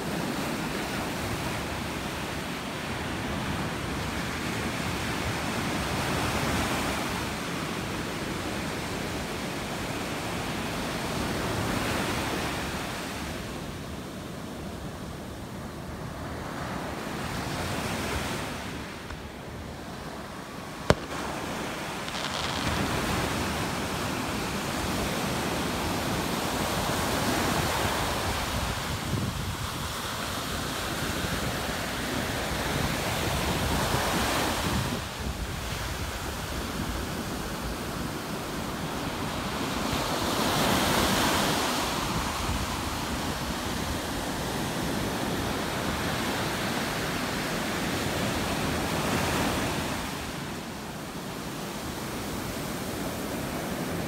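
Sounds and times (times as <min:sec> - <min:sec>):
surf washing ashore: 0:00.0 - 0:54.0.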